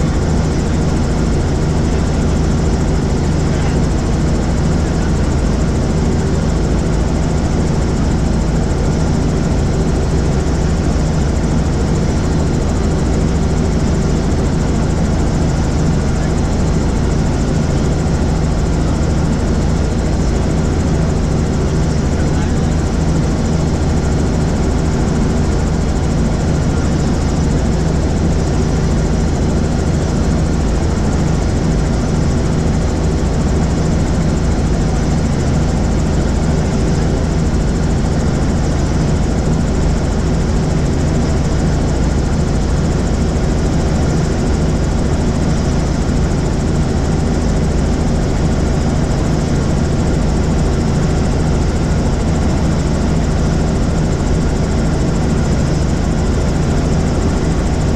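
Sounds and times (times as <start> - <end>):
helicopter rotor and engine drone: 0.0 - 57.9.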